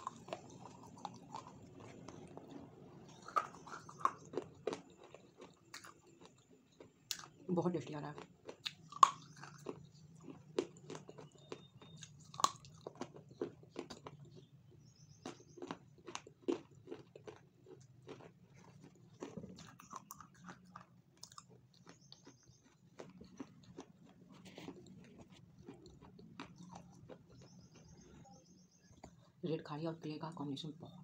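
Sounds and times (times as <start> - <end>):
crunchy chewing: 0.0 - 29.4.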